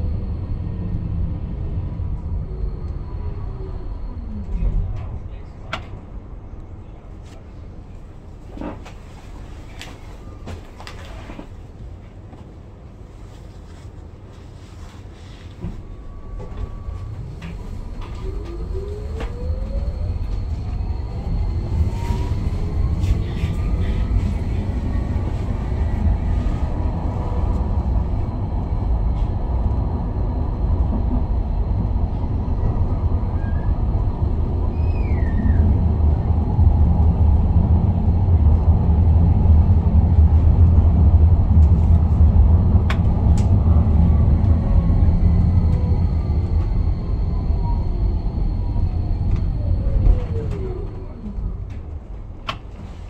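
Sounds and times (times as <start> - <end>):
tram wheels rumbling on rails: 0.0 - 53.0.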